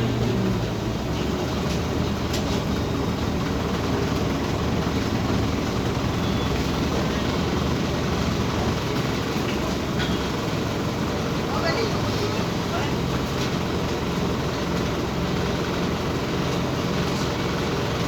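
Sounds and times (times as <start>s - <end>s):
bus engine and rolling noise: 0.0s - 18.0s.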